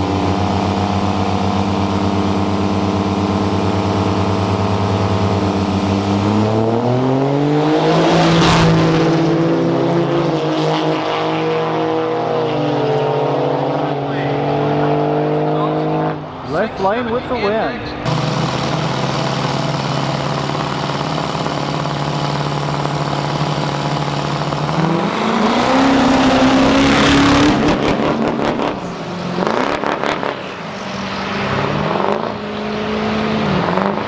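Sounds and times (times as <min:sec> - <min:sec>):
drag racing engines launching: 0:00.0 - 0:34.0.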